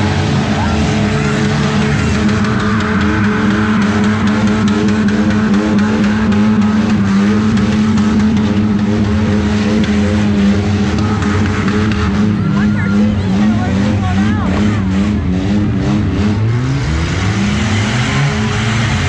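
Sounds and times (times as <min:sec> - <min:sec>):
car engines revving: 0:00.0 - 0:19.0
low engine drone: 0:00.0 - 0:19.0.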